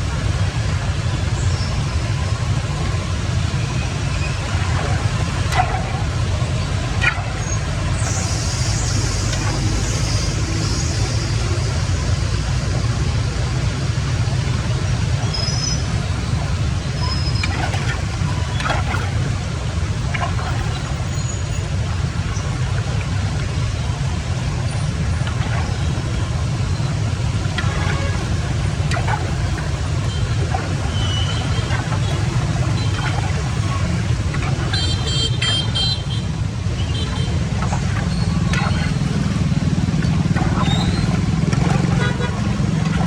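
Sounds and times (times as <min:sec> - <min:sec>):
water rushing: 0:00.0 - 0:43.0.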